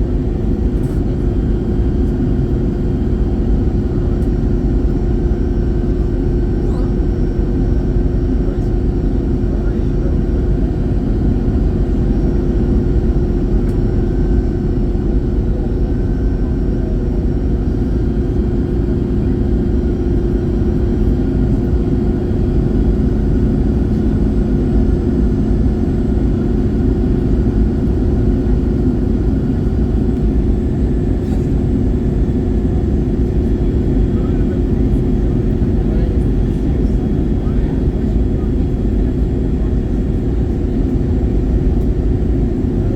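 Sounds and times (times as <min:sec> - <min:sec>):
airplane engine drone: 0:00.0 - 0:42.9.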